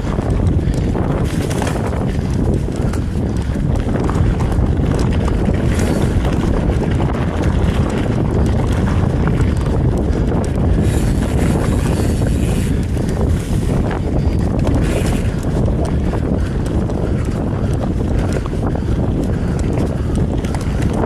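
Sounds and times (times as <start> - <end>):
bike rattles and clicks: 0.0 - 21.0
wind buffeting microphone: 0.0 - 21.0.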